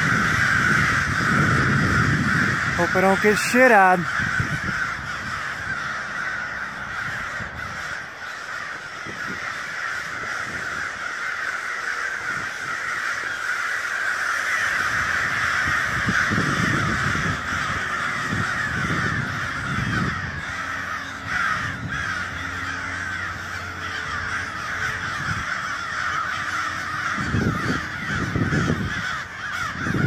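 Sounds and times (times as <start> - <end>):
crows cawing: 0.0 - 30.0.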